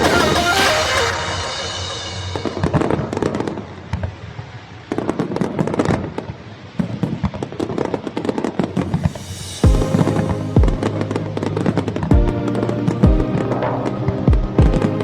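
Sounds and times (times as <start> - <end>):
fireworks crackling: 0.0 - 14.1.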